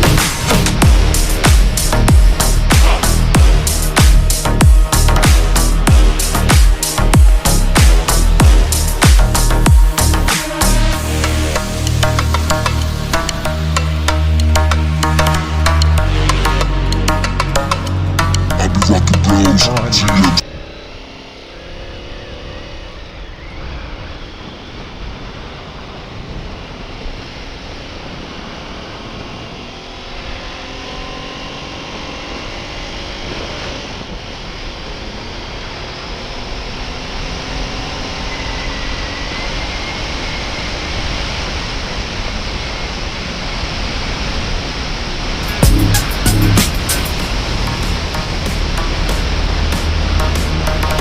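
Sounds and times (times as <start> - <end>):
motorcycle engine drone: 0.0 - 51.0.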